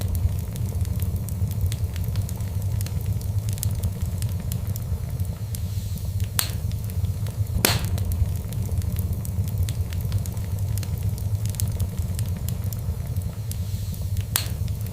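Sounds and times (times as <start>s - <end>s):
fire popping: 0.0s - 14.9s
fireplace fire crackling: 0.0s - 14.9s
low rumble: 0.0s - 14.9s.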